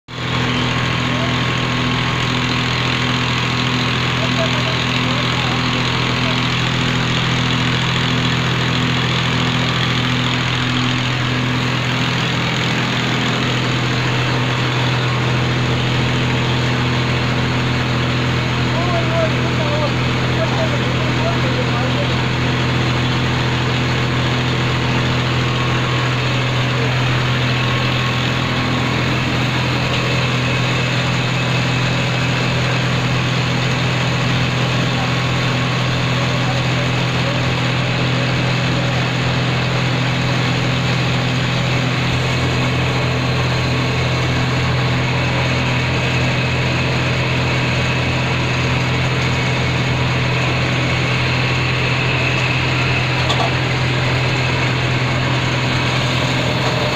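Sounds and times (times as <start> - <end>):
machine running with low hum: 0.1 - 56.9.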